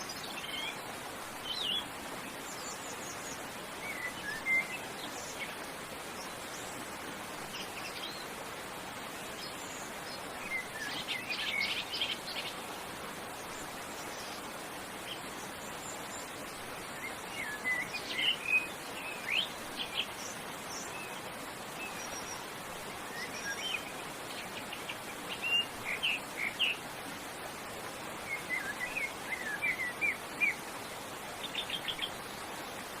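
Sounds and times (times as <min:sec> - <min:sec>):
birds chirping: 0:00.0 - 0:26.9
waterfall rushing: 0:00.0 - 0:33.0.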